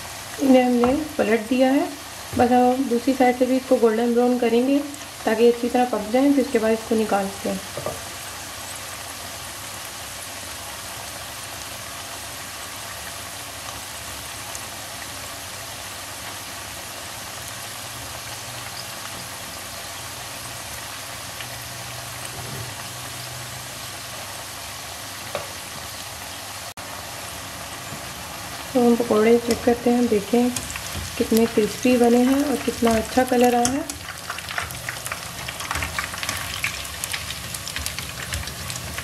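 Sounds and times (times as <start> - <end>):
food deep-frying in hot oil: 0.0 - 39.0.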